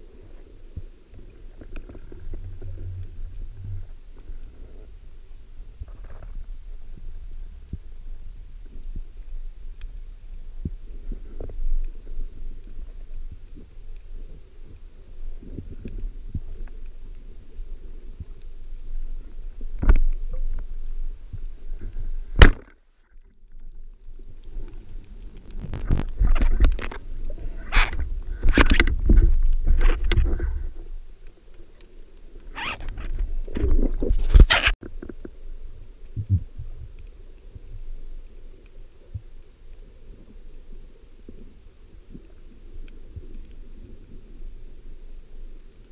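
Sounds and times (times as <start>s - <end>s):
underwater rumble of water: 0.0s - 45.9s.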